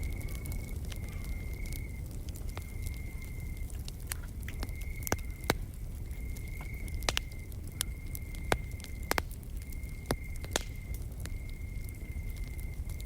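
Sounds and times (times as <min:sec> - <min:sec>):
flames rushing: 0:00.0 - 0:13.0
wood fire crackling and popping: 0:00.0 - 0:13.0.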